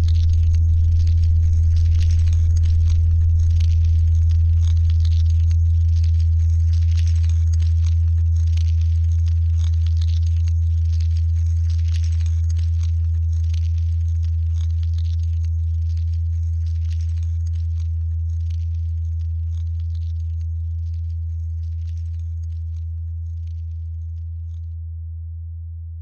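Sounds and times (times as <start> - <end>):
low electronic drone: 0.0 - 24.8
scratchy crackle: 0.0 - 24.8.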